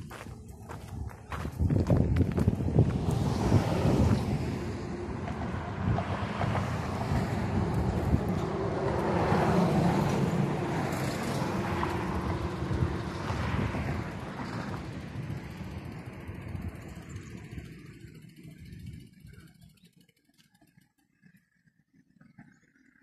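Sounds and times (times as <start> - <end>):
wind buffeting microphone: 0.0 - 20.0
road vehicle passing: 0.0 - 20.1.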